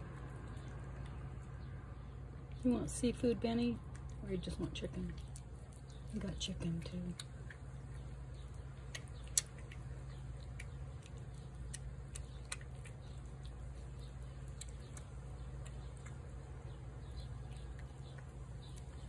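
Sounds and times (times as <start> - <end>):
cat chewing: 0.0 - 19.0
steady low hum: 0.0 - 19.0.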